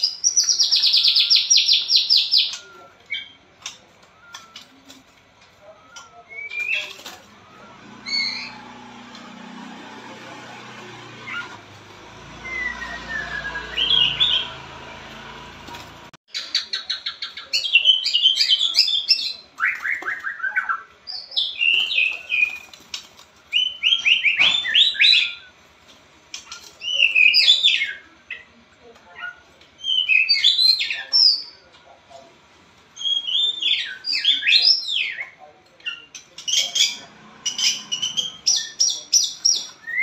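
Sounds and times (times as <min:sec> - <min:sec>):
songbird singing: 0:00.0 - 0:09.4, 0:10.0 - 0:25.6, 0:26.3 - 0:32.3, 0:33.0 - 0:40.0.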